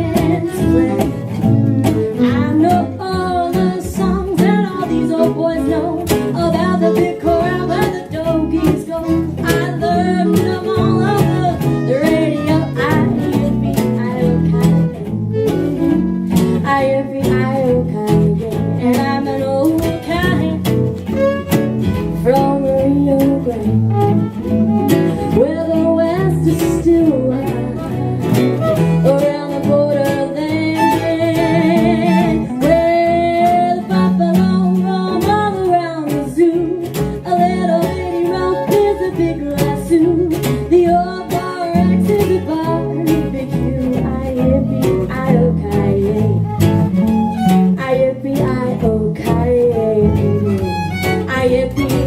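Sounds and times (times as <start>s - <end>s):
fiddles: 0.0s - 52.0s
lead guitar: 0.0s - 52.0s
western swing band: 0.0s - 52.0s.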